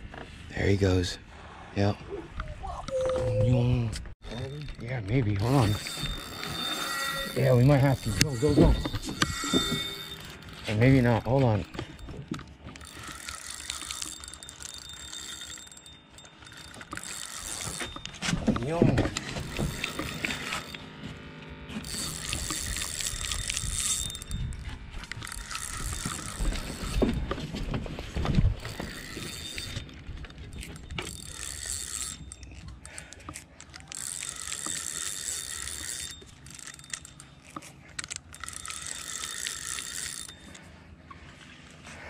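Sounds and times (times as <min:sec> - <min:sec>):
fishing reel gears whirring: 0:04.2 - 0:41.5.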